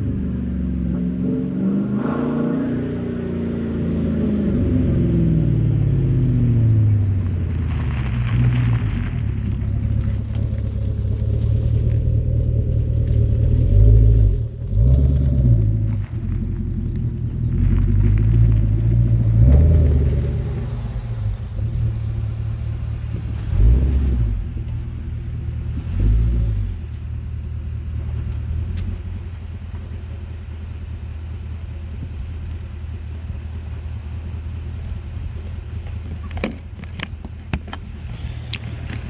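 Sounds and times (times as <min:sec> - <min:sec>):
car exhaust rumble: 0:00.0 - 0:39.0.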